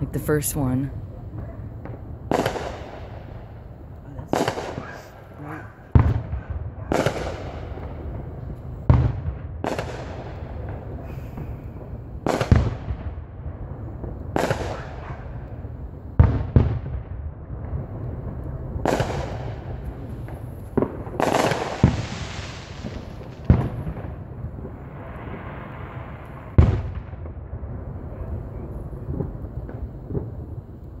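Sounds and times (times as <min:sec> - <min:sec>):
fireworks booming: 0:00.0 - 0:31.0
fireworks crackling hiss: 0:00.1 - 0:16.7, 0:17.6 - 0:27.1.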